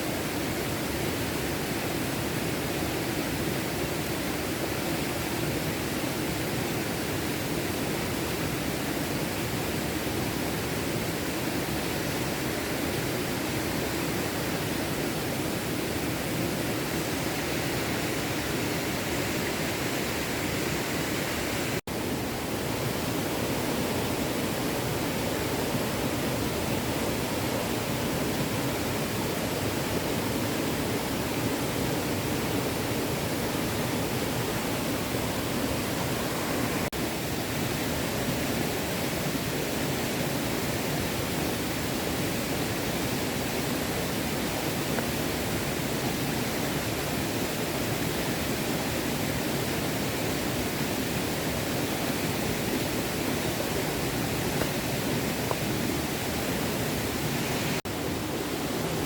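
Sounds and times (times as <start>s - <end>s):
stream flowing: 0.1s - 59.0s.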